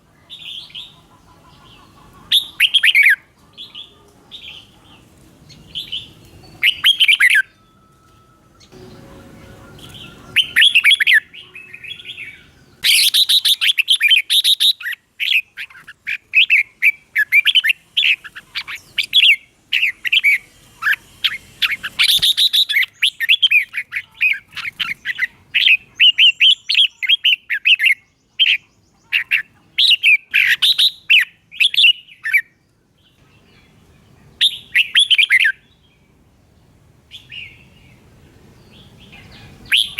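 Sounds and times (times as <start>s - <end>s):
bird singing warbling phrases: 0.0s - 36.2s, 37.1s - 39.9s.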